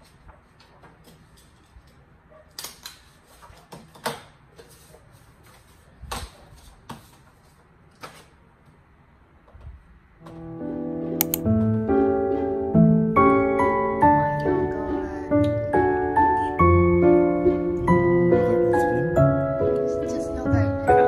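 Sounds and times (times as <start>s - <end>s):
low room noise: 0.0s - 21.0s.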